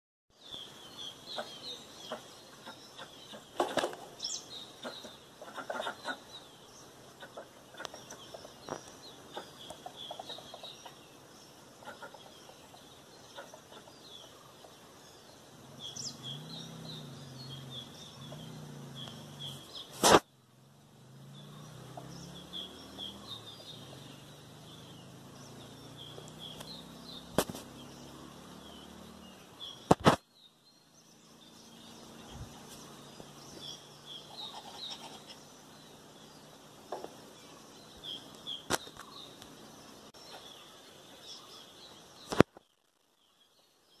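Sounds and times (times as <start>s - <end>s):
small birds chirping: 0.3s - 44.0s.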